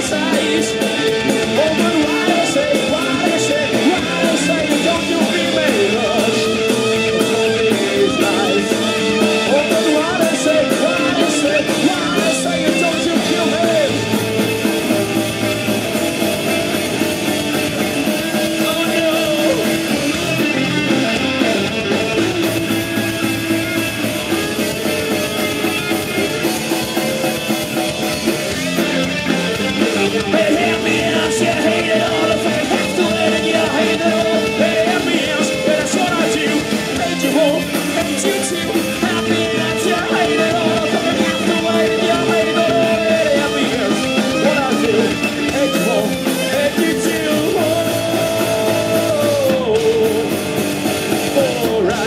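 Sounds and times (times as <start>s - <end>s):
man singing: 0.0s - 15.2s, 17.2s - 22.2s, 29.8s - 52.0s
live rock band playing: 0.0s - 52.0s.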